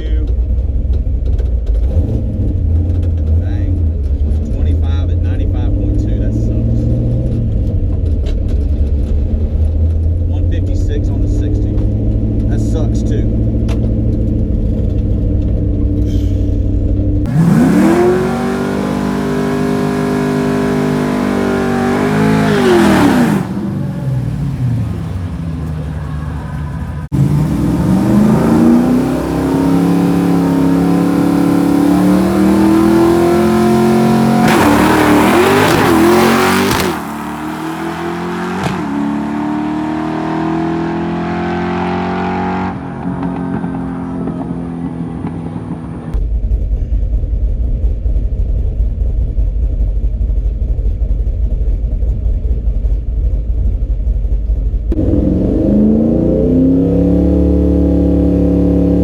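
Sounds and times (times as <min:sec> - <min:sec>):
low steady engine note: 0:00.0 - 0:18.4, 0:19.0 - 0:34.4, 0:42.8 - 0:56.4
drag car engine accelerating hard: 0:00.0 - 0:46.2, 0:54.4 - 0:59.0.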